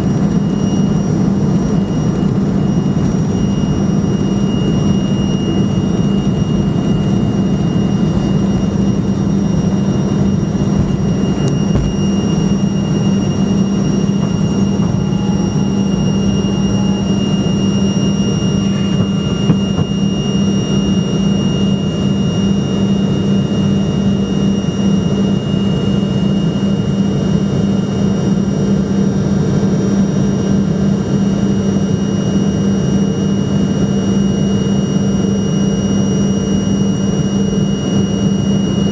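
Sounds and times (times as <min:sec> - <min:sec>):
high steady engine whine: 0:00.0 - 0:38.9
jet engines low hum: 0:00.0 - 0:38.9.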